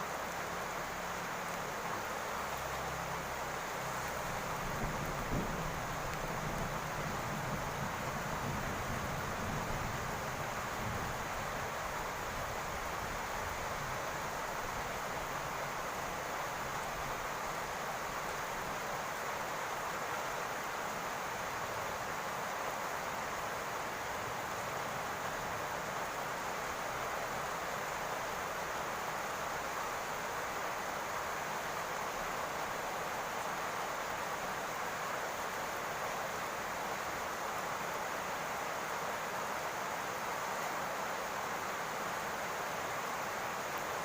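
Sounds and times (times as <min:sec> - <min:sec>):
rain falling on a roof: 0:00.0 - 0:44.0.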